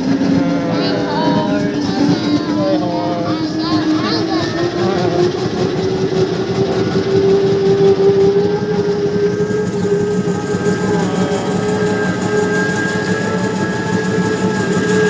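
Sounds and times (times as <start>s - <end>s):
vehicle engine rumbling drone: 0.0s - 15.0s.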